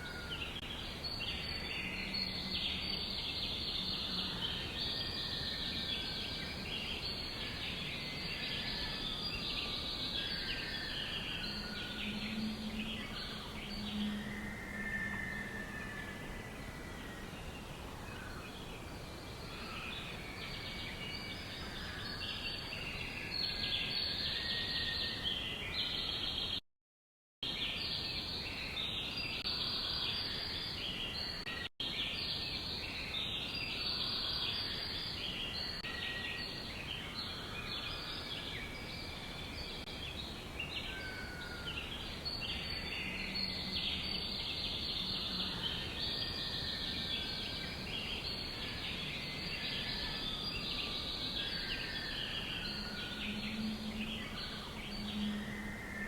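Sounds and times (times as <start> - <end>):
small birds chirping and trilling: 0.0 - 26.6, 27.4 - 56.0.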